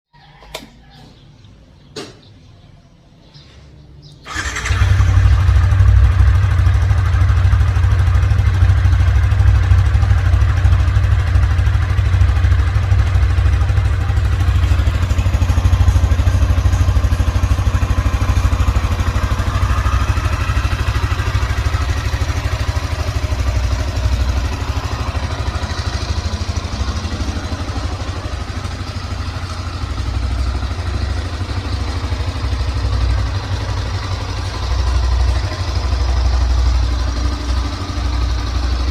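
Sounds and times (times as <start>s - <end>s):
motorcycle engine starting and idling: 3.9s - 38.9s.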